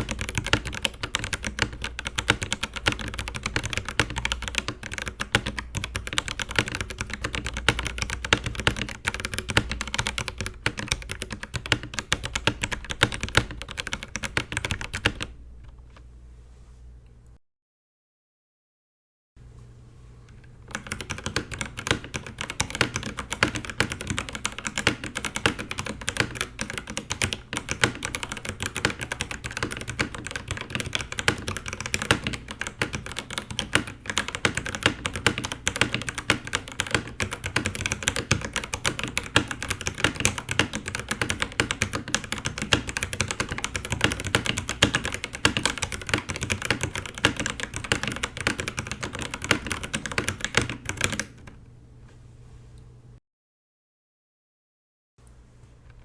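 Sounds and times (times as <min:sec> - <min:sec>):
fast mechanical keyboard typing: 0:00.0 - 0:15.4, 0:20.7 - 0:51.5.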